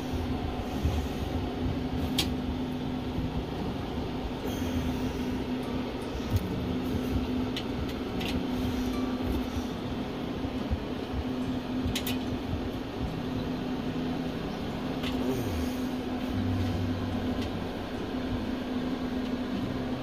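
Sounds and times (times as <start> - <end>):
incubator fan humming: 0.0 - 20.0.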